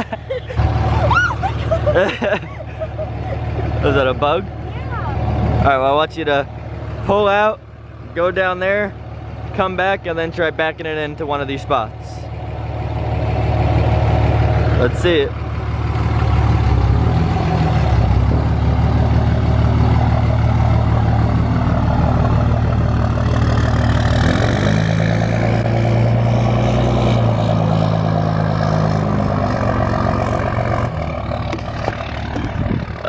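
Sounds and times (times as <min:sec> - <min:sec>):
diesel truck driving off: 0:00.0 - 0:33.0.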